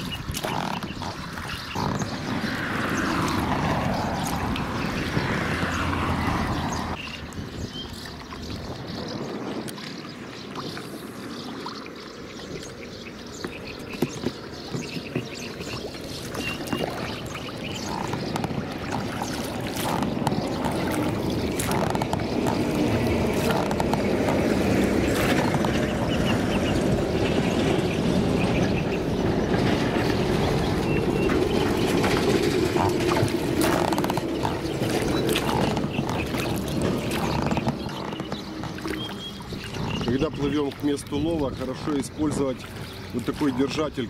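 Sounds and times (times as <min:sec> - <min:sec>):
water splashing along boat hull: 0:00.0 - 0:44.0.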